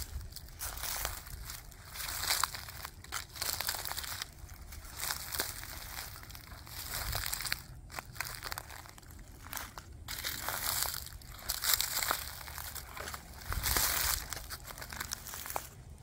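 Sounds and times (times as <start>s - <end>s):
footsteps crunching through dry leaves: 0.0s - 16.0s.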